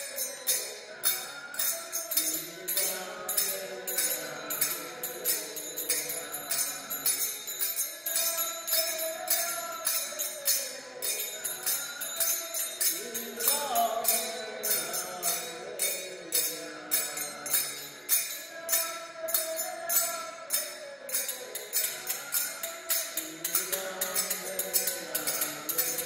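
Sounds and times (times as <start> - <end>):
jingling percussion beat: 0.0 - 26.0.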